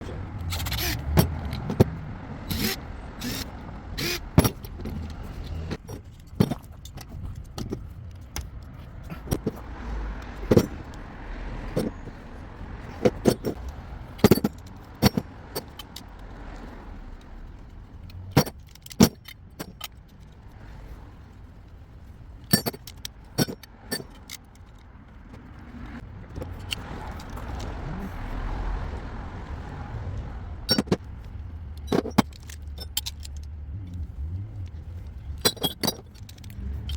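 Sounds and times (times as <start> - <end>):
metallic clinks and knocks: 0.0 - 11.0, 11.6 - 27.8, 30.6 - 36.9.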